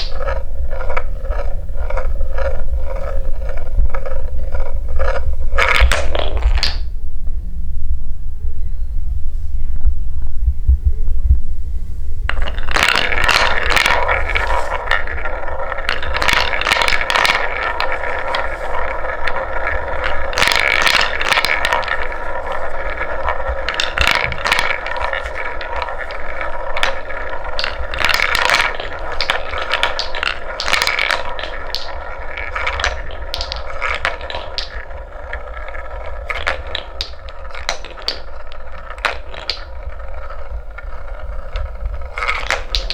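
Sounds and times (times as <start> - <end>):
wooden balls rolling on track: 0.0 - 6.9, 12.2 - 42.9
low hum: 0.0 - 42.9.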